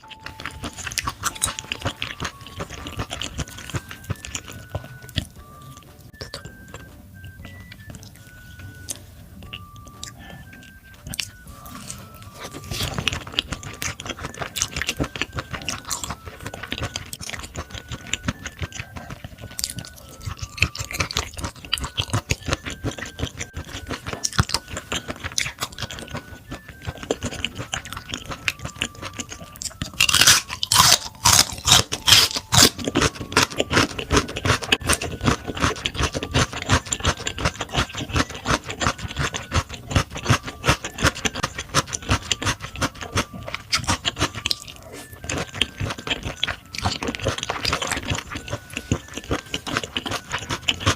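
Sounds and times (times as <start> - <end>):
crisp crunching: 0.0 - 50.9
wet chewing and mouth smacking: 0.0 - 50.9.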